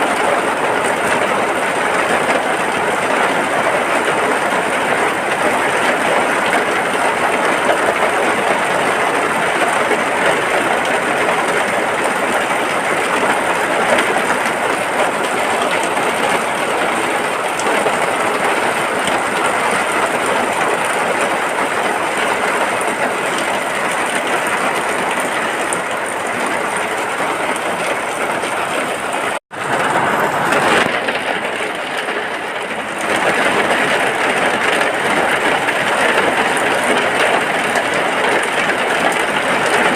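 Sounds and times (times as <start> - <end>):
heavy rain on a hut: 0.0 - 39.9.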